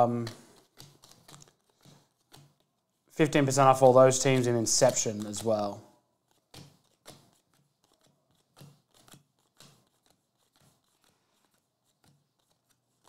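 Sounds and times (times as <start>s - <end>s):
trading cards flicking and clicking: 0.0s - 13.0s.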